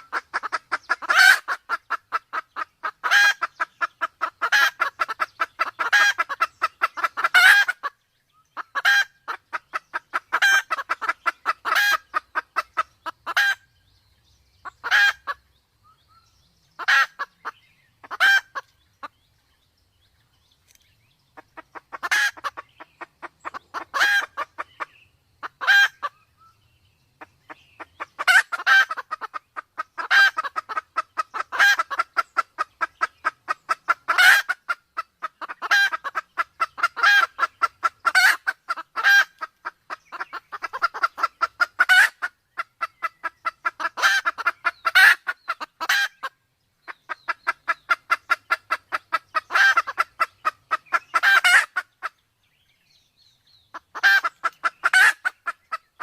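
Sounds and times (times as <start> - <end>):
junglefowl clucking: 0.0 - 13.7, 14.6 - 16.0, 16.8 - 19.2, 21.4 - 26.6, 27.2 - 52.2, 53.7 - 56.0.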